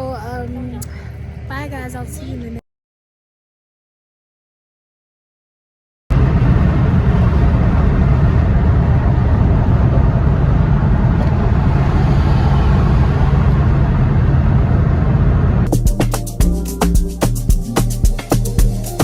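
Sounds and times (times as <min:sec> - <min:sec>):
car road and engine rumble: 0:00.0 - 0:02.6, 0:06.1 - 0:19.0.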